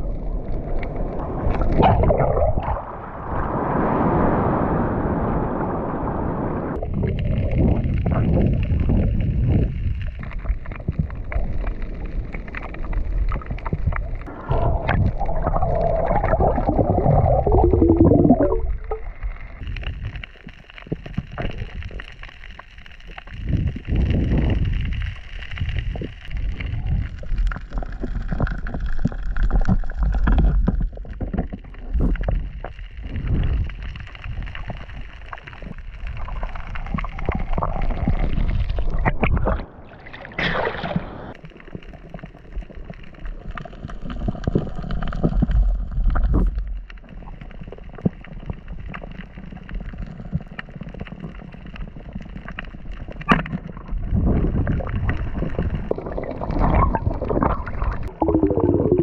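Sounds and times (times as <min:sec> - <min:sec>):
clicks and crackles: 0:00.0 - 0:02.8, 0:06.8 - 0:39.8, 0:41.3 - 0:59.0
underwater rumbling gurgling wash: 0:00.0 - 0:59.0.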